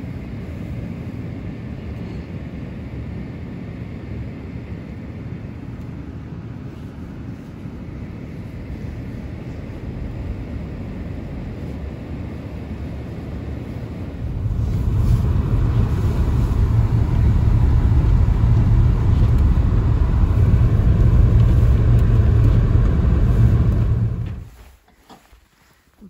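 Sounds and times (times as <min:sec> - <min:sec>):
car engine and tyre rumble: 0:02.9 - 0:25.5.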